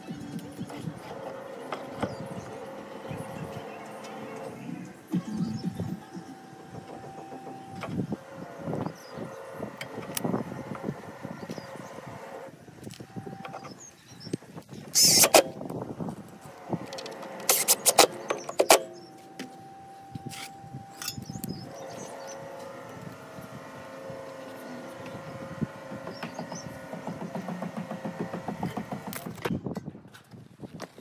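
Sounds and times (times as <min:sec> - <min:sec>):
steady machine hum: 0:00.0 - 0:29.5.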